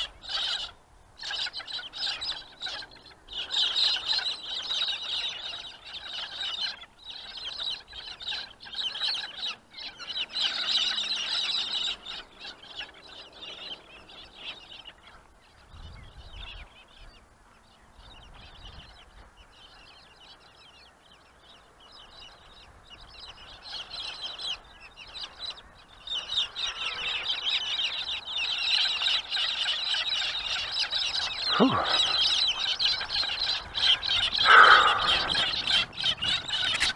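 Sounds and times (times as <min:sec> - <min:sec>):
wild birds chirping: 0:00.0 - 0:36.9.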